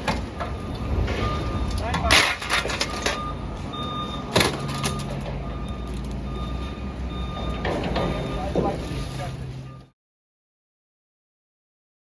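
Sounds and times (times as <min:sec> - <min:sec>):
reversing alarm beeping: 0:00.1 - 0:10.0.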